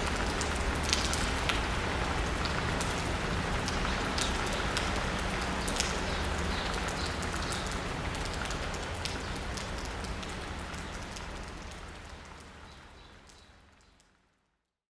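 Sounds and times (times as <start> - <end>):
rain pattering on asphalt: 0.0 - 14.4.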